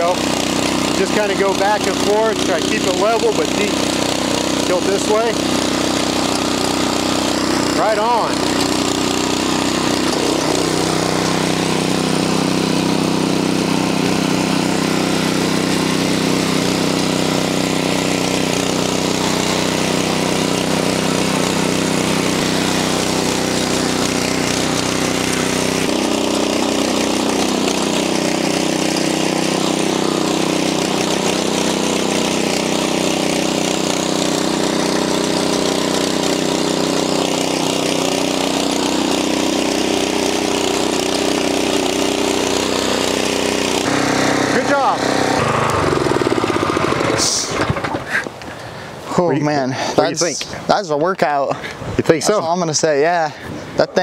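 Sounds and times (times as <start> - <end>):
tiller engine running under load: 0.0 - 53.8.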